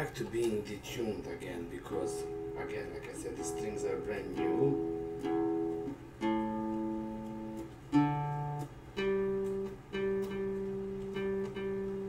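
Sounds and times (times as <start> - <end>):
guitalele strings plucked: 0.0 - 12.0.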